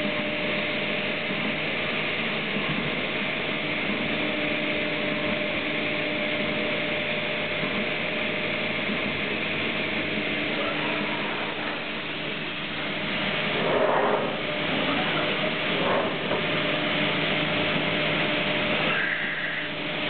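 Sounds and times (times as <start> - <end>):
cnc router humming and hissing: 0.0 - 20.0.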